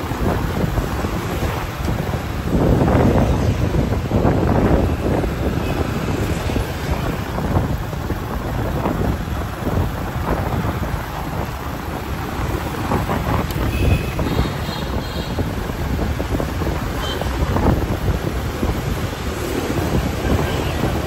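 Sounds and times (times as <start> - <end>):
street traffic: 0.0 - 21.0
wind buffeting microphone: 0.0 - 21.0.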